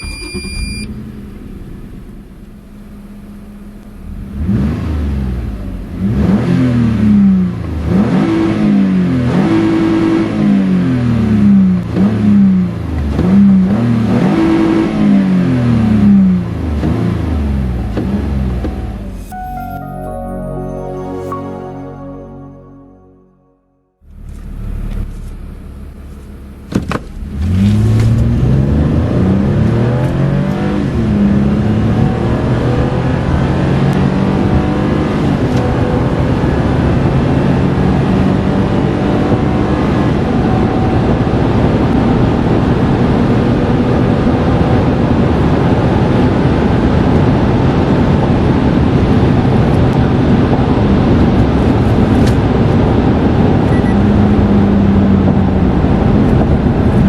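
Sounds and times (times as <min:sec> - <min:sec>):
car engine accelerating: 0:00.0 - 0:19.3, 0:24.1 - 0:57.0
road and wind noise: 0:03.4 - 0:19.3, 0:24.1 - 0:57.0.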